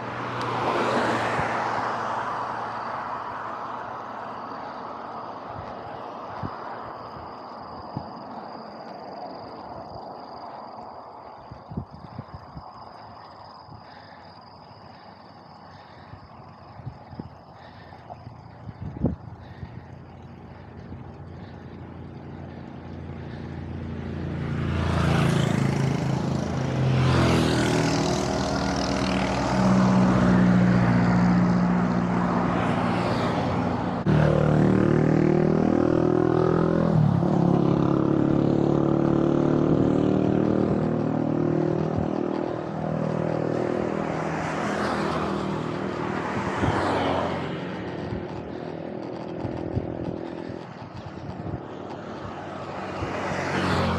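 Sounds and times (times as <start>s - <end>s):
traffic passing by: 0.0s - 53.9s.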